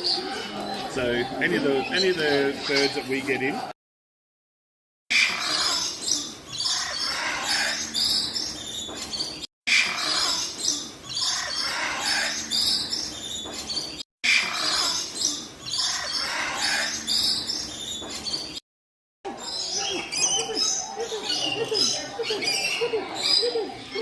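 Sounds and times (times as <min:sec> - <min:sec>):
birds chirping: 0:00.0 - 0:03.7, 0:05.1 - 0:18.6, 0:19.3 - 0:24.0.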